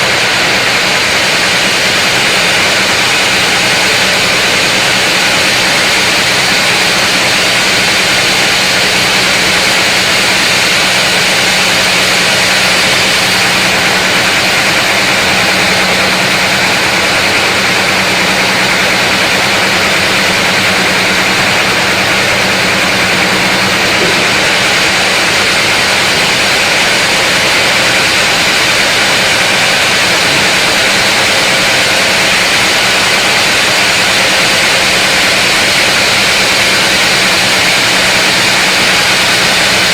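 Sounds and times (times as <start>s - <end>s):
saw motor humming: 0.0s - 39.9s.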